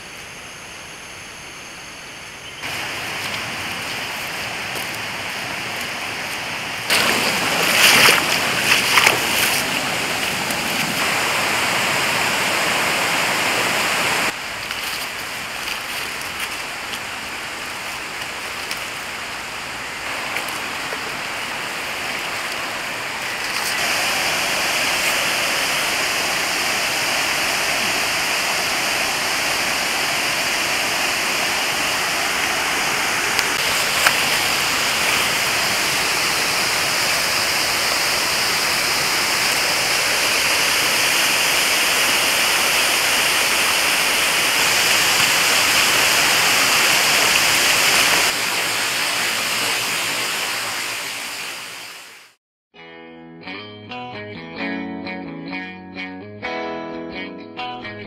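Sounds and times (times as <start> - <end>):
stream running over rocks: 2.6 - 52.4.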